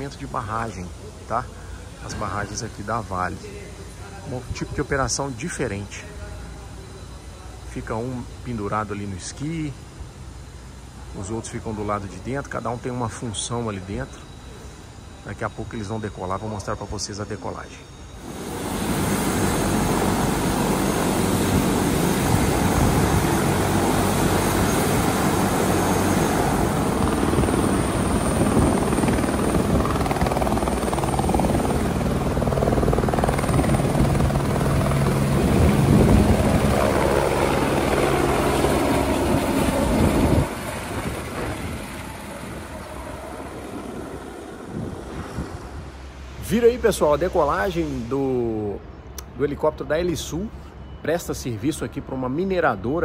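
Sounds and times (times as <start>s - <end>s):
helicopter rotor and engine: 0.0s - 49.1s.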